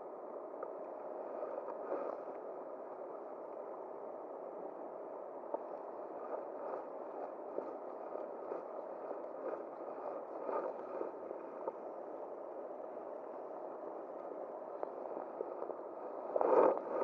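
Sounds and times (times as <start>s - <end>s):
faint small ticks: 0.3s - 2.5s, 5.0s - 17.0s.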